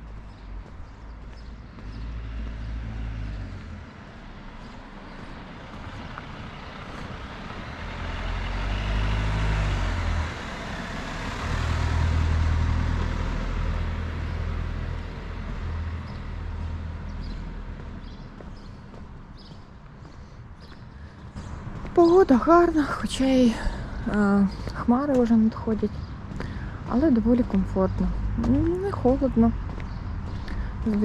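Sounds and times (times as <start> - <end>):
vehicle passing: 0.0 - 31.0.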